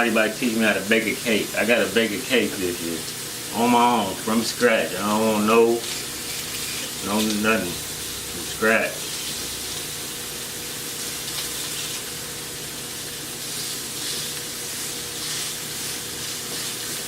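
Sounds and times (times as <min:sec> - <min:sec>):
sausage sizzling in a pan: 0:00.0 - 0:17.0.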